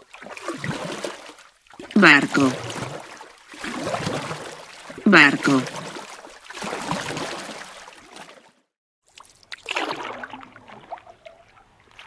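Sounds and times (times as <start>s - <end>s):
water lapping around a boat: 0.0s - 12.0s.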